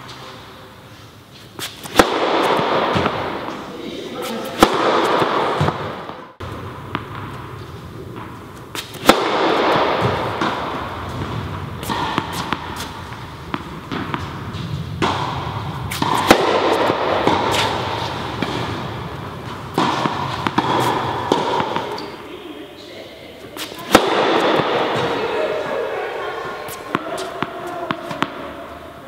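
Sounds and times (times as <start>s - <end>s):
racket hitting tennis ball: 1.4s - 22.3s, 23.4s - 28.8s
ball bouncing on court: 1.9s - 3.6s, 4.2s - 22.2s, 23.6s - 25.3s, 26.7s - 28.5s.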